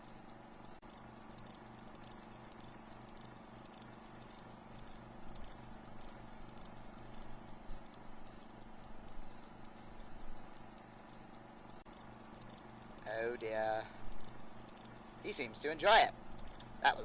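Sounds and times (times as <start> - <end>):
low electrical hum and hiss: 0.0 - 17.0.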